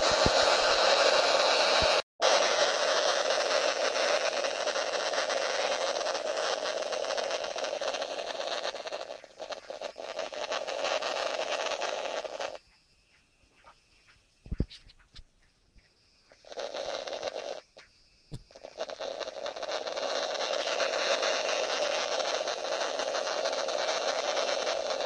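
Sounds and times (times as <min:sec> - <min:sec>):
radio static hiss: 0:00.0 - 0:12.6, 0:16.3 - 0:25.0.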